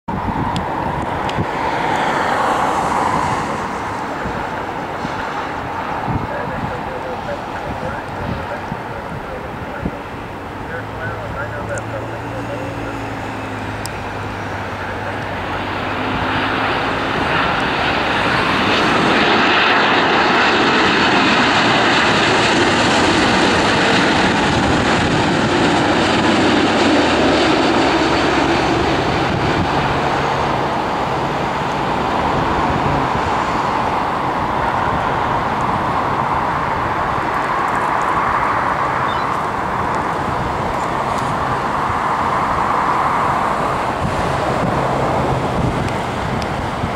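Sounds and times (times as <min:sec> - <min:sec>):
jet airliner passing low: 0:00.1 - 0:46.9.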